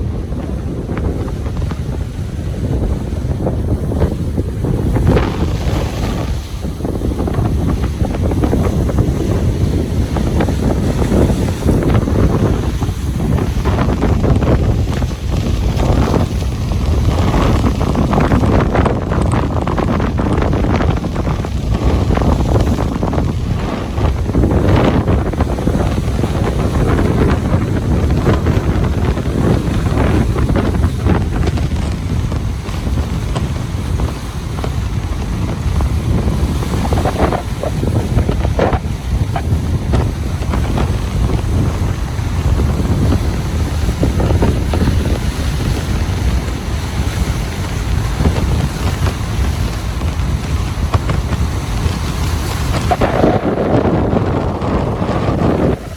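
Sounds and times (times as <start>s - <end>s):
ocean waves on a beach: 0.0s - 55.9s
wind buffeting microphone: 0.0s - 55.9s.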